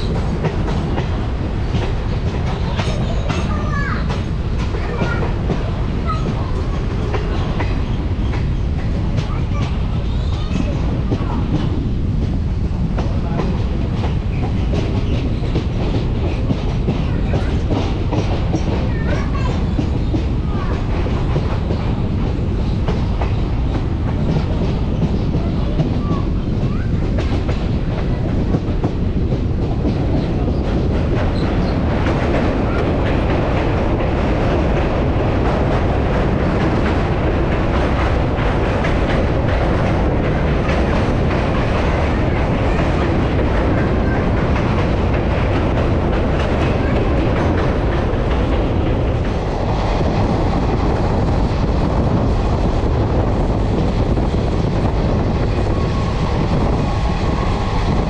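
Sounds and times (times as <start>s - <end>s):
clickety-clack over rail joints: 0.0s - 58.0s
train wheels rumbling on rails: 0.0s - 58.0s.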